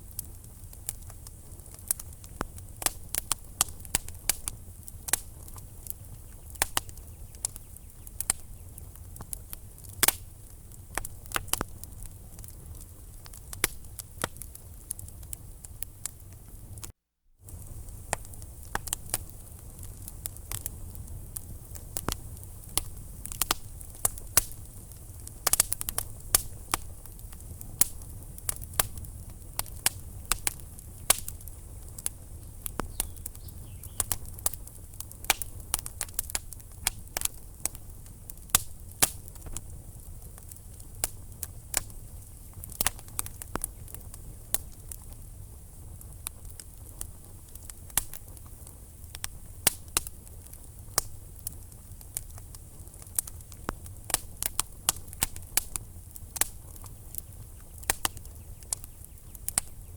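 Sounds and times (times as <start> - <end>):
low rumble of flame: 0.0 - 59.9
wood fire crackling and popping: 0.0 - 59.9.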